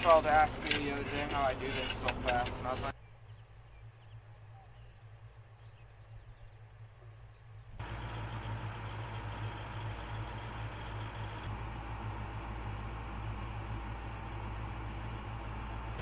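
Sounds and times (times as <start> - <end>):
diesel engines running: 0.0 - 16.0
faint low hum: 0.0 - 16.0.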